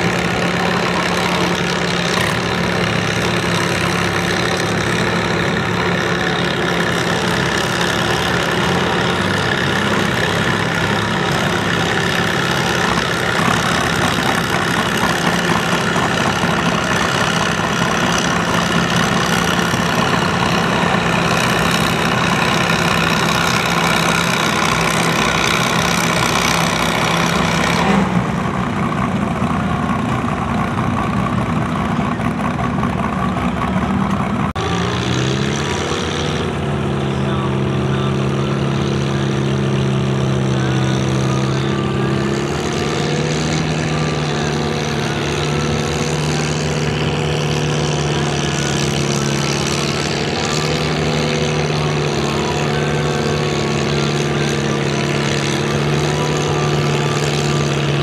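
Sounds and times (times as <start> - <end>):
tractor engine revving: 0.0 - 58.0
tractor engine running hard: 0.0 - 58.0.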